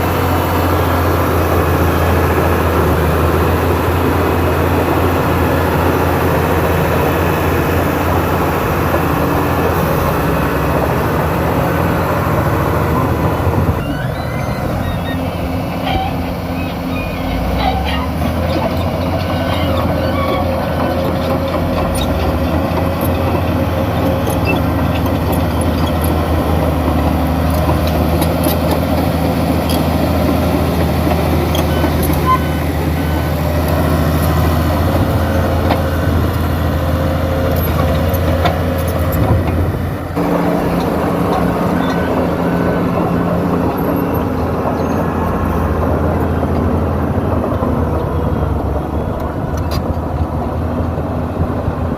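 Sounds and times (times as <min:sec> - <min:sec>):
bulldozer diesel engine rumbling: 0:00.0 - 0:51.9.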